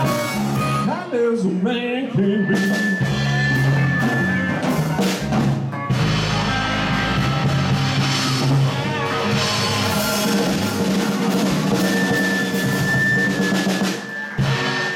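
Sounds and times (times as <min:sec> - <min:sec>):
blues-rock band playing: 0:00.0 - 0:14.9.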